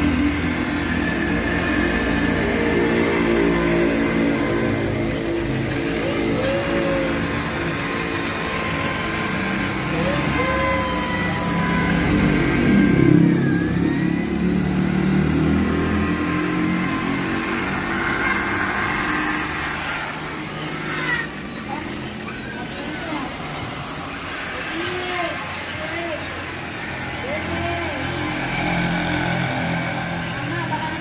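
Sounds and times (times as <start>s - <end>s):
electric polisher motor running: 0.0s - 31.0s.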